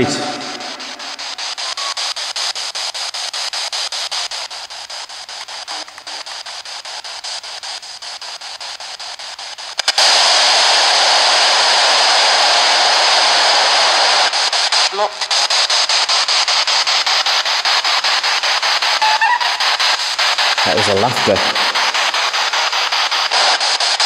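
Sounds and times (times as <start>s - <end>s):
spirit box static blips: 0.0s - 24.0s
steady static hiss: 0.0s - 24.0s.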